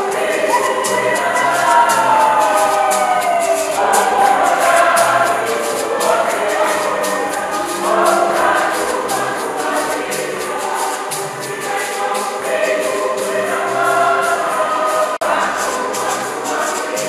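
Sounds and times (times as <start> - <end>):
choir singing a hymn: 0.0 - 17.0
steady percussion beat: 0.0 - 17.0.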